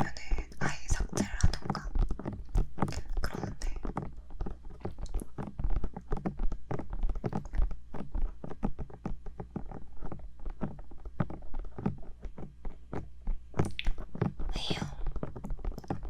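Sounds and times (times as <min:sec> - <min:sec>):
fingertips tapping microphone: 0:00.0 - 0:16.0.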